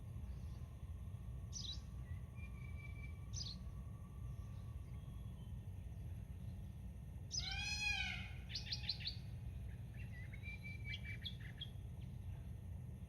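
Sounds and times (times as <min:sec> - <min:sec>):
steady low background rumble: 0:00.0 - 0:13.0.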